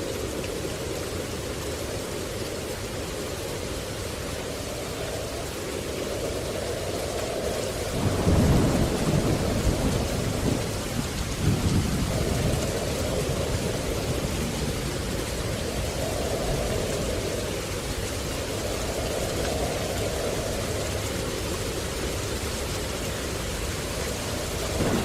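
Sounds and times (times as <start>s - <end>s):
steady rain: 0.0s - 25.0s
thunder rumbling: 4.0s - 25.0s.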